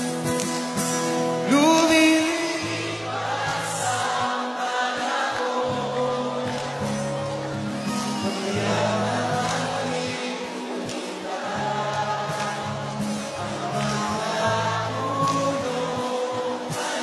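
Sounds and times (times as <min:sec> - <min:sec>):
acoustic guitar ballad: 0:00.0 - 0:17.0
audience singing along: 0:00.0 - 0:17.0.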